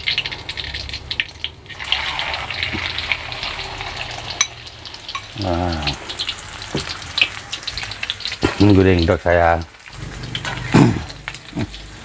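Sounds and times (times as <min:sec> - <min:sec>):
egg sizzling in hot oil: 0:00.0 - 0:12.0.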